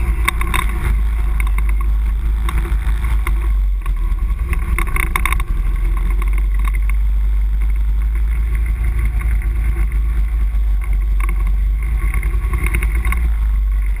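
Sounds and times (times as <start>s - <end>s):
quad bike engine running: 0.0s - 14.0s
rattles and clicks: 0.0s - 14.0s.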